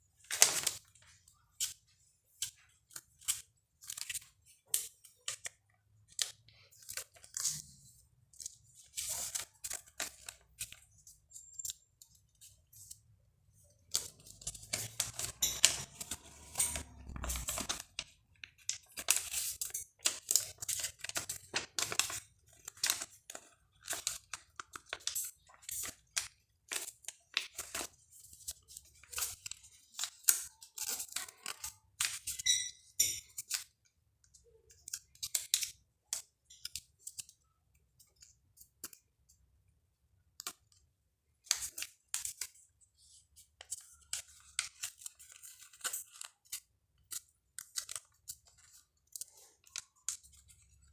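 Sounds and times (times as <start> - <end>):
paper folding and crackling: 0.2 - 32.4, 41.4 - 50.9.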